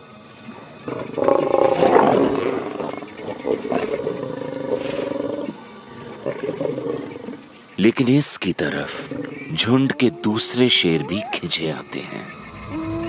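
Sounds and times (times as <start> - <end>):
lions growling: 0.5 - 13.0.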